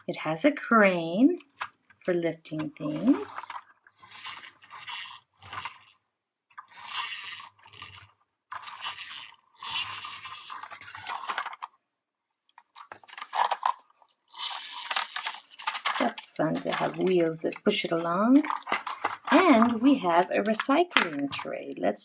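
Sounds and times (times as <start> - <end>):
plastic toy truck rolling: 1.4 - 11.8, 12.6 - 22.0.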